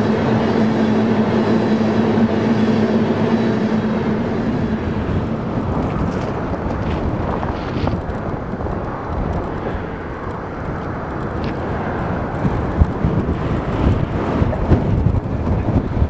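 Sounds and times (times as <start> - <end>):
diesel locomotive engine: 0.0 - 16.0
train rumble: 0.0 - 16.0.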